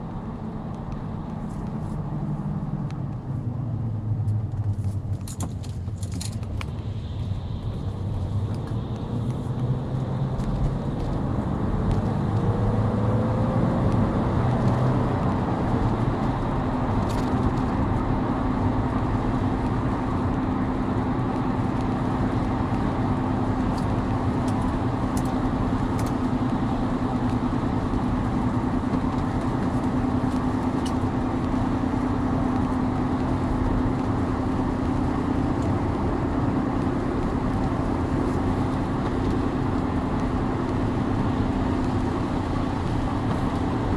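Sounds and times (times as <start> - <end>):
road and engine rumble: 0.0 - 43.9.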